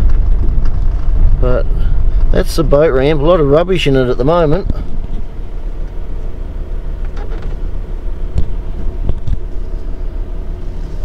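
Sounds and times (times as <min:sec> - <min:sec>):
car driving slowly: 0:00.0 - 0:11.0.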